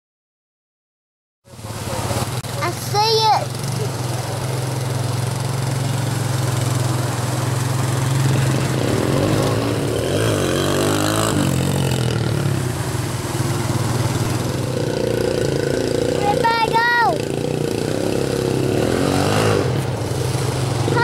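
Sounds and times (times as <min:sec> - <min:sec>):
quad bike engine running: 0:01.5 - 0:21.0.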